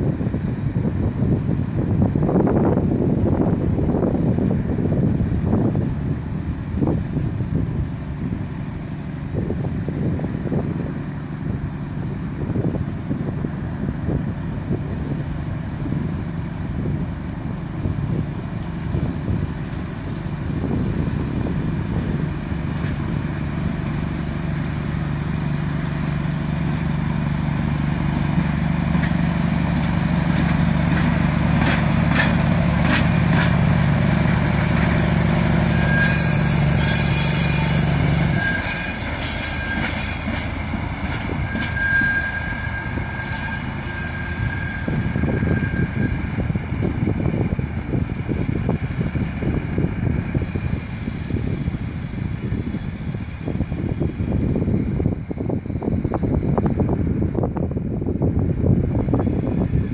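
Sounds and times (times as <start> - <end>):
locomotive diesel engine running: 0.0 - 59.9
wheels squealing on rails: 8.2 - 59.9.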